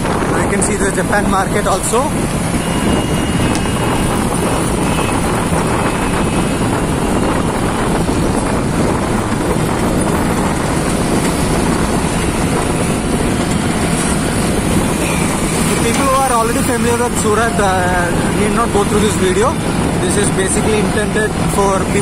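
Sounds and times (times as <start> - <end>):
passing traffic: 0.0 - 22.0.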